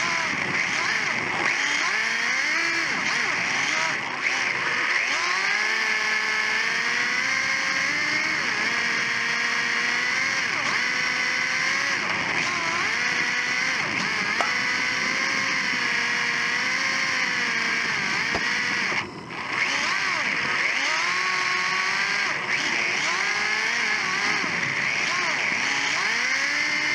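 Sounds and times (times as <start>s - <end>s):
rc car electric motor whine: 0.0s - 26.9s.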